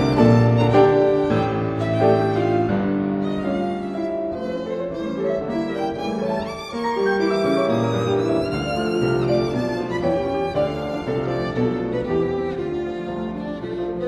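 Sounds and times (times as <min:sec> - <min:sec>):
violin music: 0:00.0 - 0:14.0.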